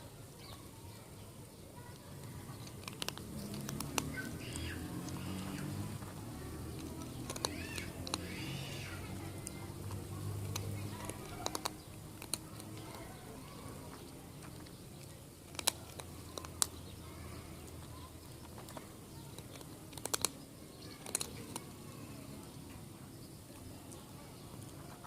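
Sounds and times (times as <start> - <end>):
cat chewing food: 1.8 - 22.2.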